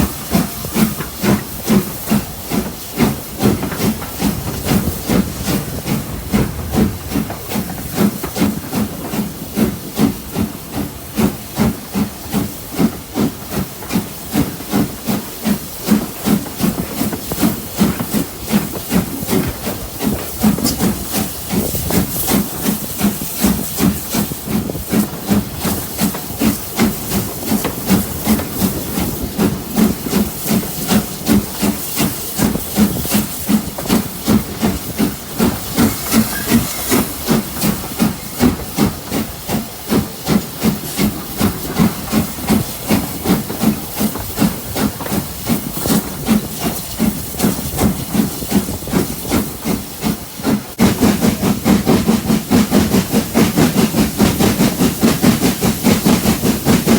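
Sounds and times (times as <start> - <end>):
steam hiss: 0.0 - 56.9
steam locomotive exhaust beats: 0.0 - 56.9.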